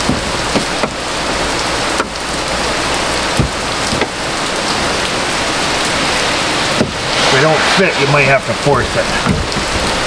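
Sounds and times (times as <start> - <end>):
steady loud hiss: 0.0 - 10.0.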